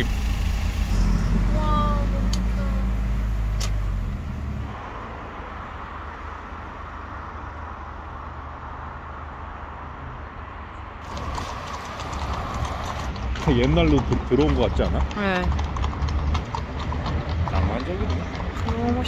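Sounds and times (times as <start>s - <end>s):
distant city traffic: 0.0s - 19.0s
engine and road hum: 0.0s - 19.0s.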